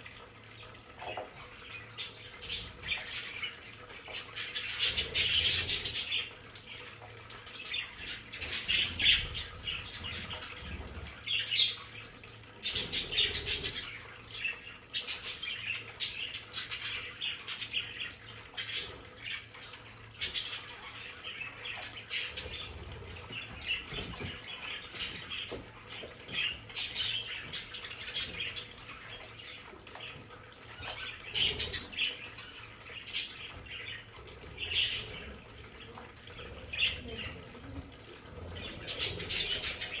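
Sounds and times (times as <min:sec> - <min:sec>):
budgerigars chirping and squawking: 0:01.0 - 0:06.4, 0:07.5 - 0:11.8, 0:12.6 - 0:37.6, 0:38.3 - 0:40.0.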